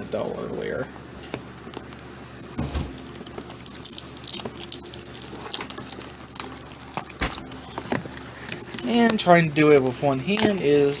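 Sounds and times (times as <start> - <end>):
packaging clicks and rustles: 1.2 - 11.0.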